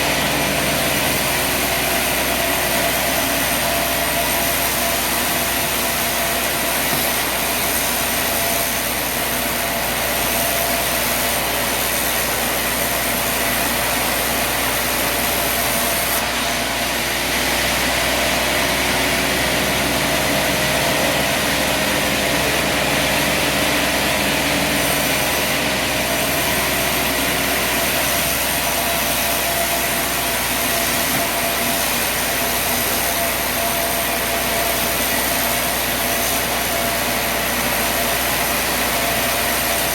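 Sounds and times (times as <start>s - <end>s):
sawmill engine and saw noise: 0.0s - 39.9s.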